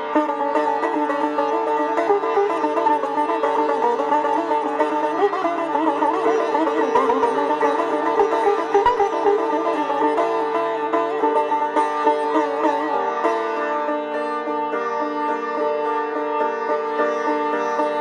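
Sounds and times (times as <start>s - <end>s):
sitar playing: 0.0s - 18.0s.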